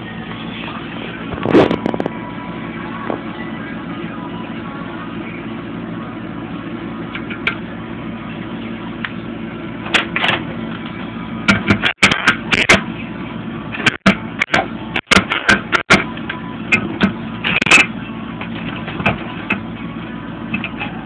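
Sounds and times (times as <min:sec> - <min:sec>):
low shop hum: 0:00.0 - 0:21.0.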